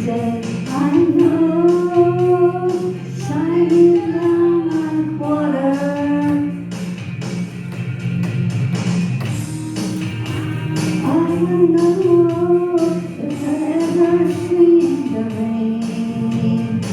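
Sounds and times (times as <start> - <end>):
person singing karaoke: 0.0 - 6.8, 10.0 - 16.9
rock backing track: 0.0 - 16.9.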